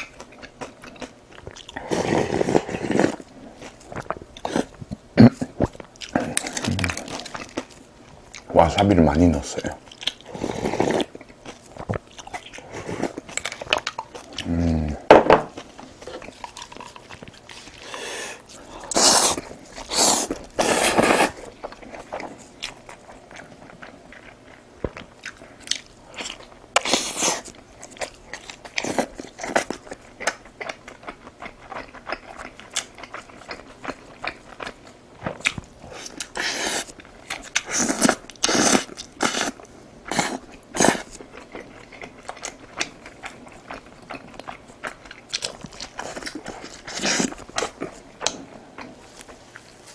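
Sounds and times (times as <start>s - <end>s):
chewing and crunchy bites: 0.0s - 49.9s.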